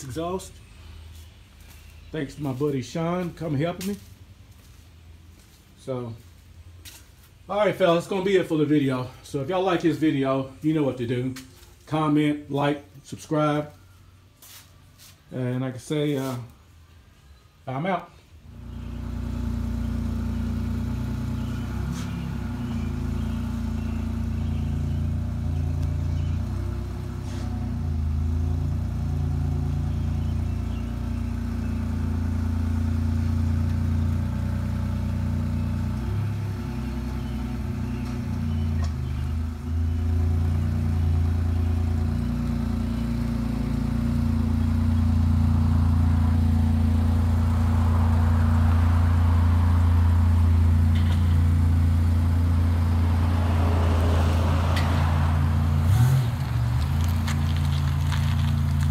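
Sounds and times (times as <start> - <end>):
car engine idling deep rumble: 0.0 - 12.0, 18.4 - 58.9.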